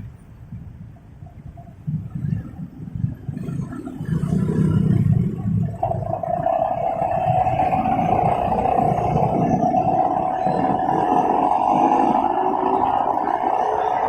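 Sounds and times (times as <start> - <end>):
motorcycle engine rumble: 0.0 - 14.0
steady whine: 2.2 - 14.0.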